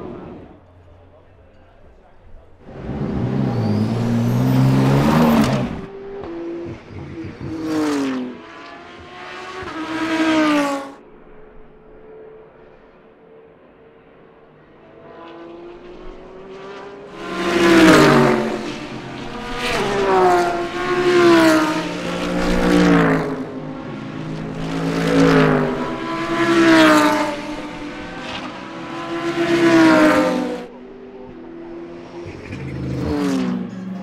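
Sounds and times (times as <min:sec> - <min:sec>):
race cars passing at speed: 0:02.2 - 0:34.0.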